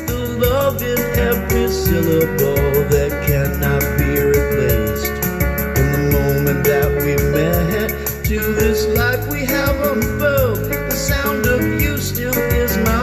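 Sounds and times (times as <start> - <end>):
band playing instrumental: 0.0 - 13.0
sliding lead melody: 0.0 - 13.0
steady drum beat: 0.0 - 13.0.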